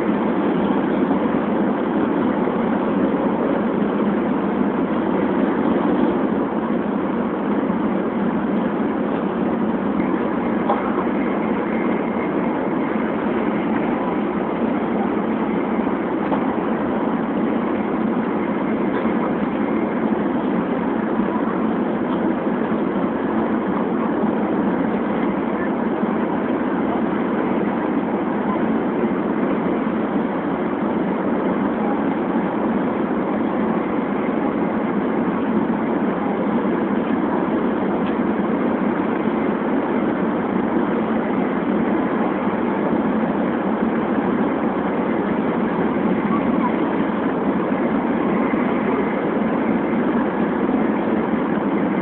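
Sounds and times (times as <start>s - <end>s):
train cabin hum: 0.0s - 52.0s.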